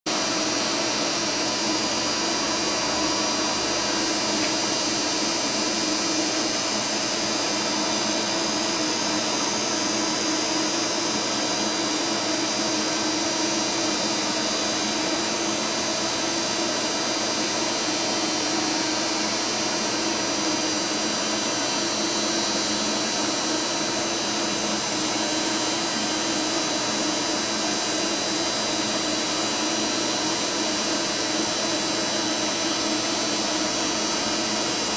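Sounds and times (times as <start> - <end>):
machine hiss and hum: 0.1 - 34.9.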